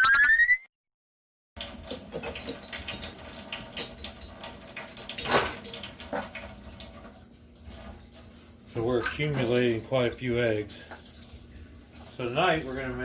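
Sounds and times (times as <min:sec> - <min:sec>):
water running from a tap: 0:01.6 - 0:13.0.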